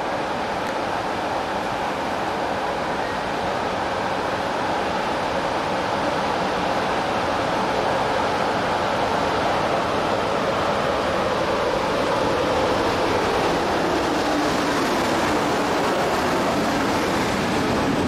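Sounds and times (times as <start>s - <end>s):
electric locomotive passing: 0.0s - 18.0s
train wheels on rails: 0.0s - 18.0s.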